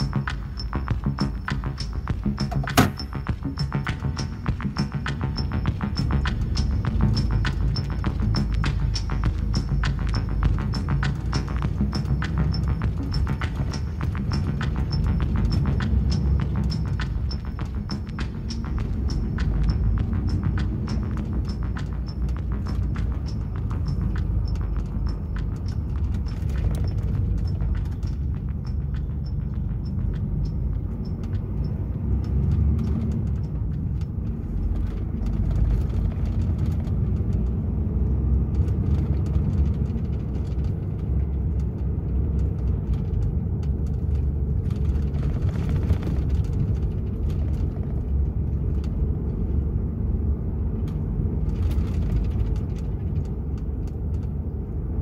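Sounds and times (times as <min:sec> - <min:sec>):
truck diesel engine rumbling: 0:00.0 - 0:55.0.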